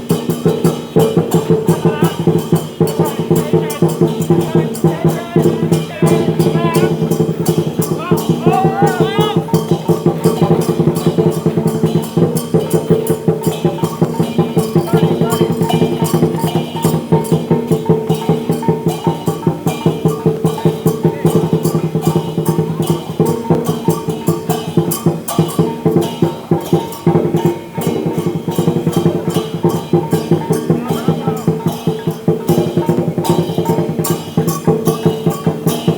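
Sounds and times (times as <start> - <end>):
cymbals crashing: 0.0 - 35.9
drums playing fast beat: 0.0 - 35.9.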